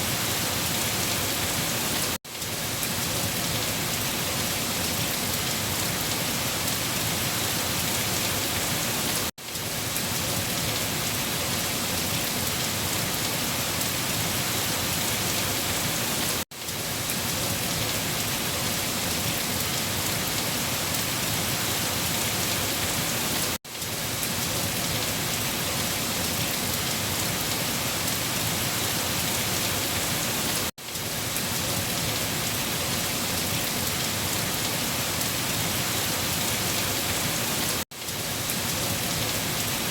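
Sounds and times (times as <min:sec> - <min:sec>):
heavy rain falling on leaves: 0:00.0 - 0:39.9.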